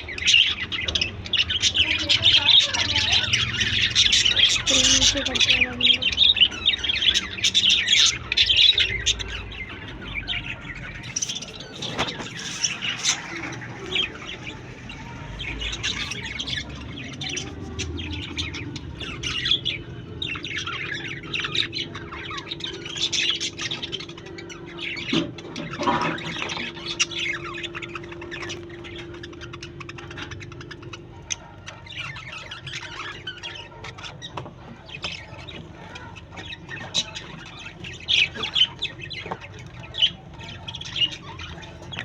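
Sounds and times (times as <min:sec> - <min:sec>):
parakeets chirping and squawking: 0:00.0 - 0:42.0.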